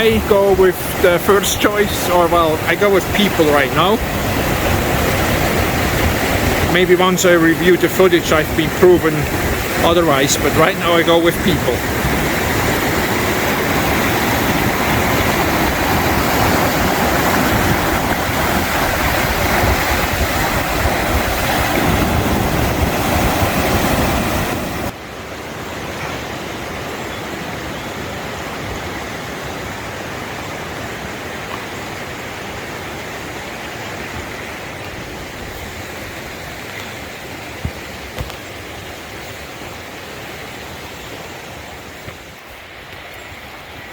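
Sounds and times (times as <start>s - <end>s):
fast-flowing river water: 0.0s - 43.9s.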